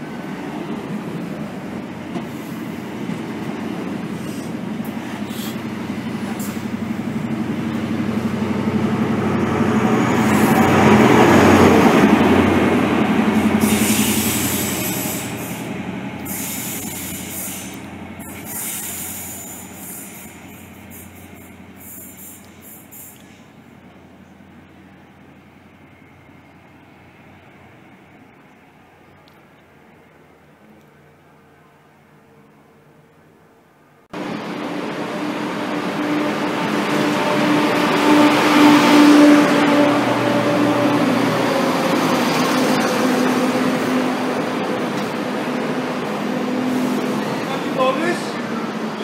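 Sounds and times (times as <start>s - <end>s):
train wheels on rails: 0.0s - 31.0s, 34.2s - 49.0s
diesel train engines: 0.0s - 49.0s.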